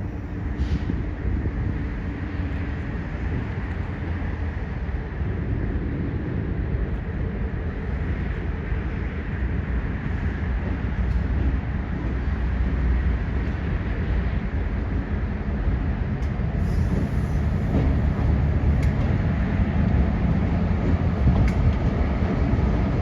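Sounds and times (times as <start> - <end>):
diesel locomotive rumbling: 0.0 - 23.0.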